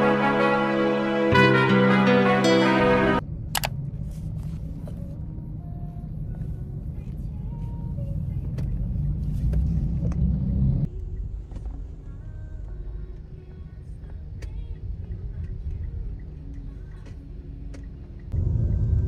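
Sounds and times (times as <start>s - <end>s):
car interior road rumble: 3.2s - 19.0s.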